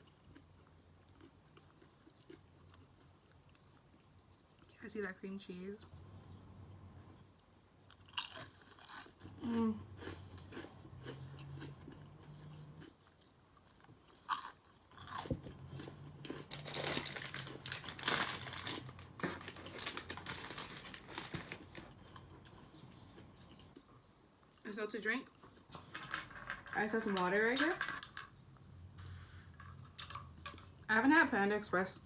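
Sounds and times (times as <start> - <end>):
crunching and chewing fried food: 0.0 - 5.0, 5.9 - 24.7, 28.0 - 30.9.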